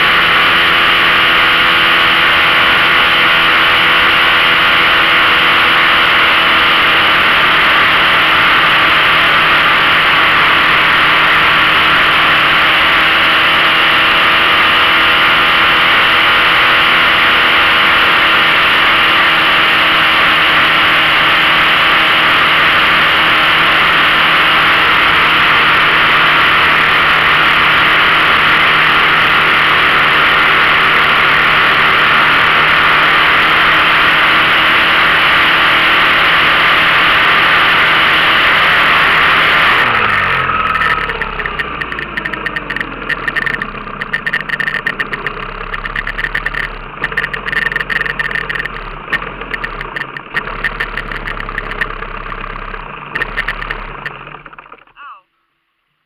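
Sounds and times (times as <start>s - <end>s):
outboard motor droning: 0.0s - 54.9s.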